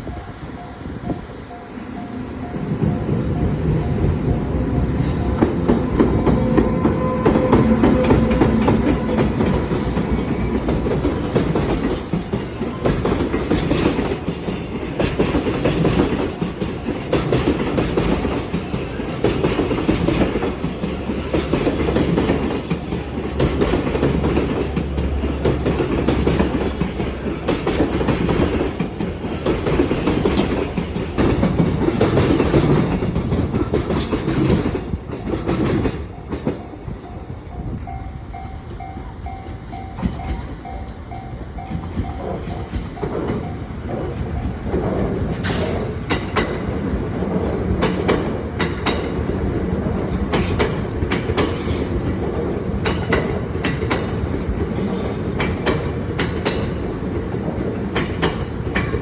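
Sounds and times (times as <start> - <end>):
train wheels clattering over joints: 4.8 - 37.0, 39.8 - 59.0.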